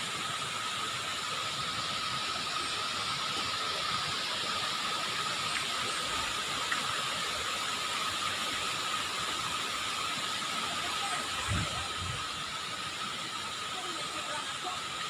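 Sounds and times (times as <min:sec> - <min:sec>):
water rushing over cascades: 0:00.0 - 0:15.0.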